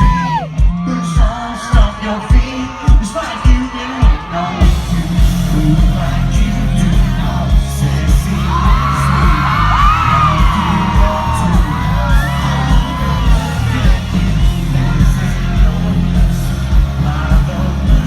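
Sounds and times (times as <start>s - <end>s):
crowd whooping and yelling: 0.0s - 18.0s
live country music: 0.0s - 18.0s.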